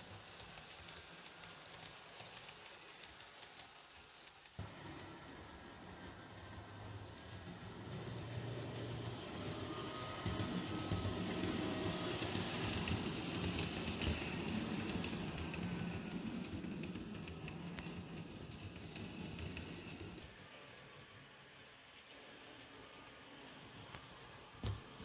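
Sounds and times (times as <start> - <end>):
model train motor hum: 0.0 - 25.0.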